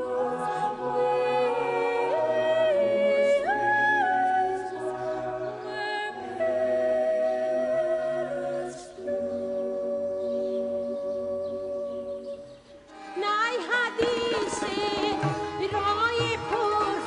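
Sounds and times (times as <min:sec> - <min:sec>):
woman singing sacred melody: 0:00.0 - 0:17.0.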